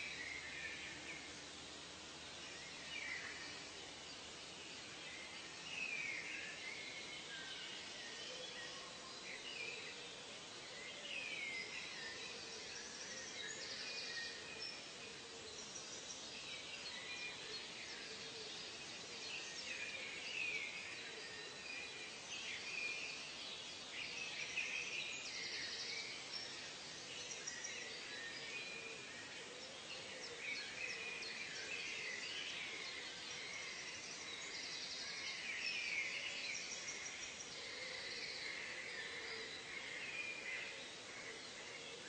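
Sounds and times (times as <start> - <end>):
steady background hiss: 0.0 - 42.0.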